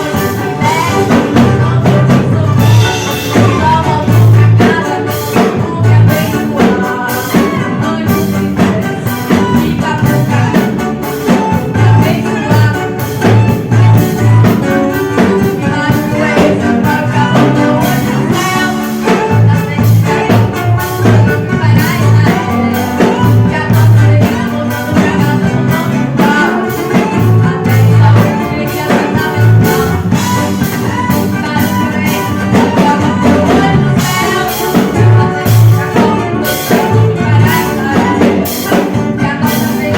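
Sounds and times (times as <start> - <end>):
drum kit beat: 0.0 - 39.9
heavy bass line: 0.0 - 39.9
live band playing: 0.0 - 39.9
person singing: 0.0 - 39.9.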